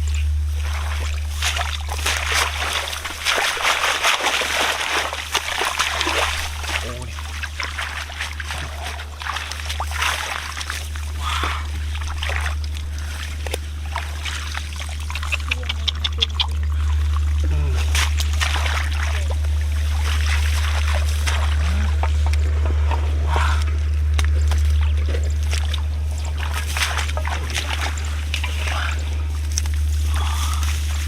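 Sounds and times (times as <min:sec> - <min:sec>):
shallow water splashing: 0:00.0 - 0:31.0
steady low hum: 0:00.0 - 0:31.0.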